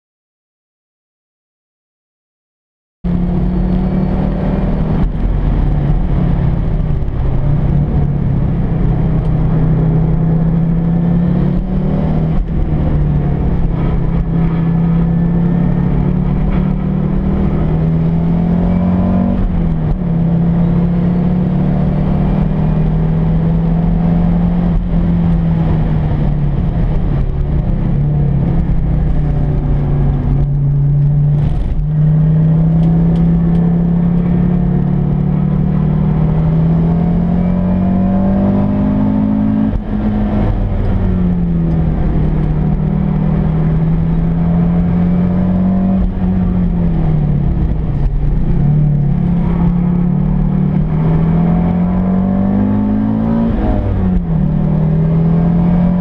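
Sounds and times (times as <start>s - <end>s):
turbocharged car engine revving: 3.1s - 56.0s.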